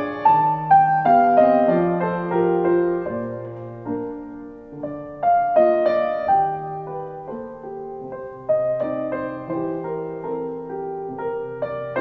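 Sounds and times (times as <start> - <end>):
slow gentle piano piece: 0.0 - 12.0.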